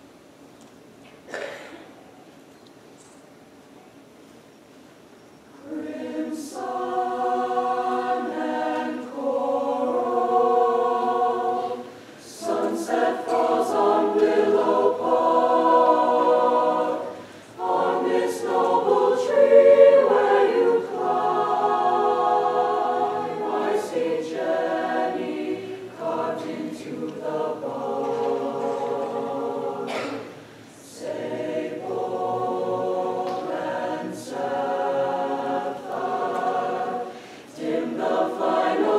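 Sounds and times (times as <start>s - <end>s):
choir singing held chords: 5.6s - 38.9s.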